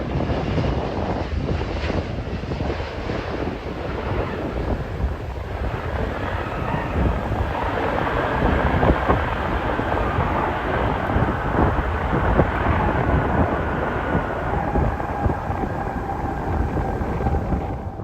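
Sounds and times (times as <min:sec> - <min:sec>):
jet engine rumble: 0:00.0 - 0:18.0
wind buffeting microphone: 0:00.0 - 0:18.0
faint steady whine: 0:02.8 - 0:18.0.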